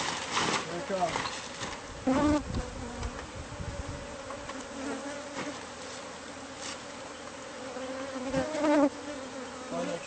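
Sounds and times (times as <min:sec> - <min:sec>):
honey bees buzzing: 0:00.0 - 0:10.0.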